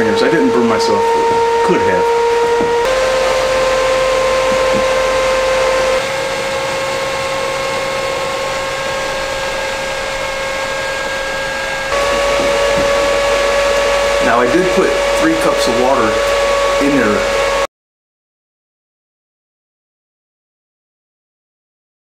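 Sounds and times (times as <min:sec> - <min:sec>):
fan whine: 0:00.0 - 0:17.7.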